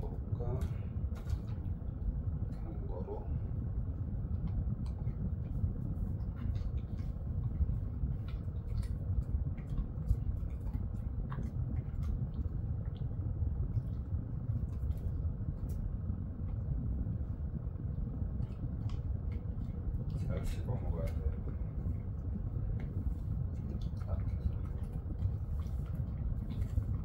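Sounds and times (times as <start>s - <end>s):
dog chewing a treat: 0.0s - 27.0s
low rumble: 0.0s - 27.0s.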